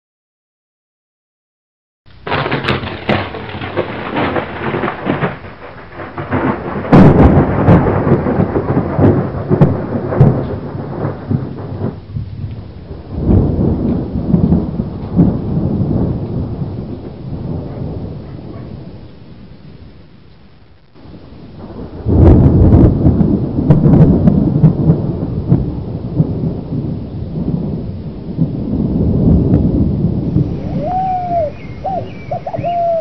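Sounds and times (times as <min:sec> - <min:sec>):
loud thunder crack: 0:02.2 - 0:20.0, 0:21.0 - 0:33.0
rolling thunder: 0:02.2 - 0:20.3, 0:21.0 - 0:33.0.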